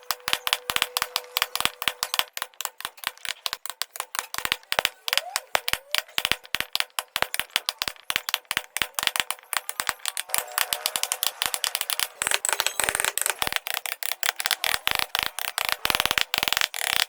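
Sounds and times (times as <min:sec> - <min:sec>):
wooden clicks and knocks: 0:00.0 - 0:17.0.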